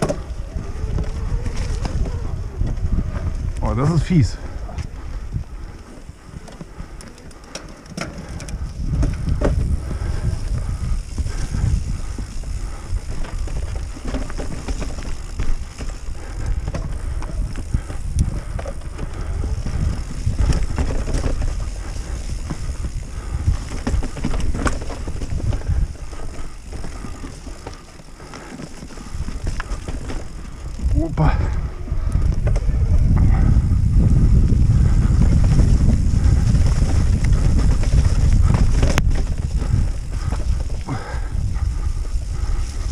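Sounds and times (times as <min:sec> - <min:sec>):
bike rattling and knocking: 0:00.0 - 0:42.9
bike tyre noise: 0:00.0 - 0:42.9
wind rumbling on microphone: 0:00.0 - 0:42.9.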